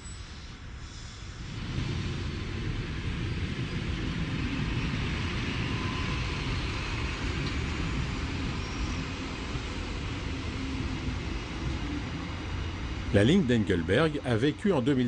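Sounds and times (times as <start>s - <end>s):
electric train rumbling: 0.0s - 15.0s
train hiss: 0.0s - 15.0s.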